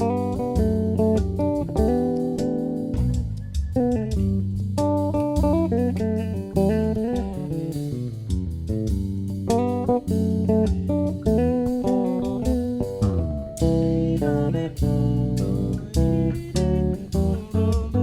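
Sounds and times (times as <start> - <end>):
bass guitar melody and chords: 0.0 - 18.0.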